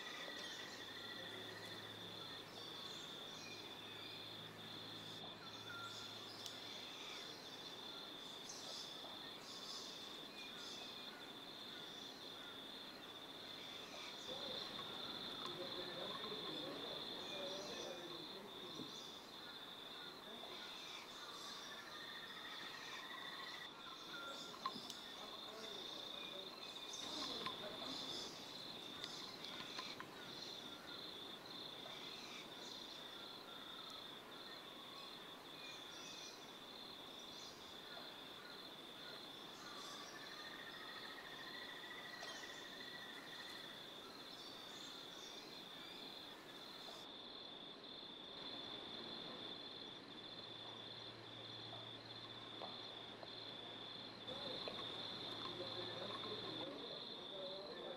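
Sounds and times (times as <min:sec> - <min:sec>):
insect chirping: 0:00.0 - 0:57.9.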